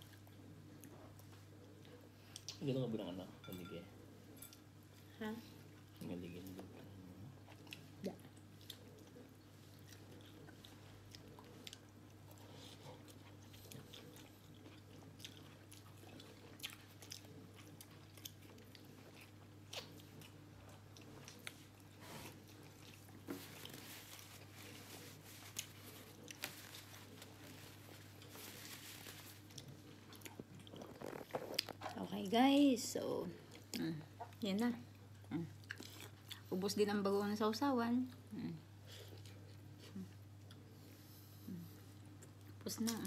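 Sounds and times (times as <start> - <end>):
chewing and crunching food: 0.0 - 3.2, 4.2 - 37.0, 38.0 - 43.0.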